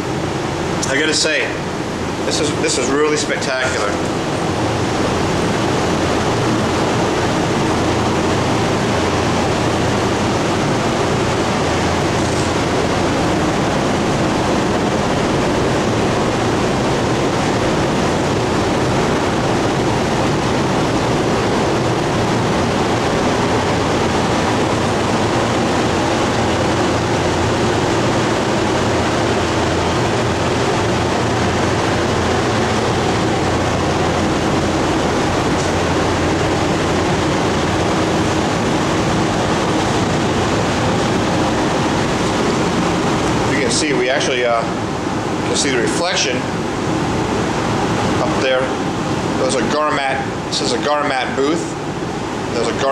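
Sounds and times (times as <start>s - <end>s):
ventilation fan rushing air: 0.0s - 52.9s.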